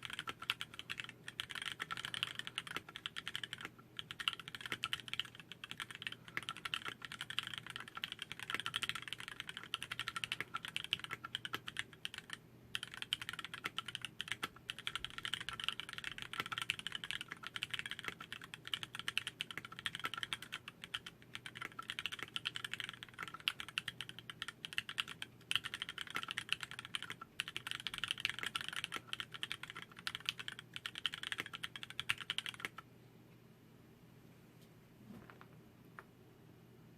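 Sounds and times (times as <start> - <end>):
mechanical keyboard typing: 0.0 - 32.8.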